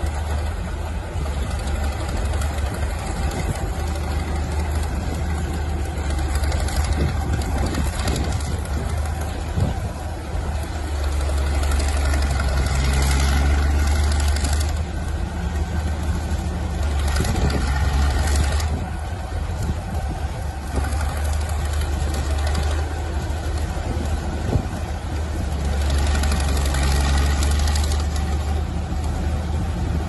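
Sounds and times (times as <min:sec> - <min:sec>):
heavy engine droning: 0:00.0 - 0:30.0.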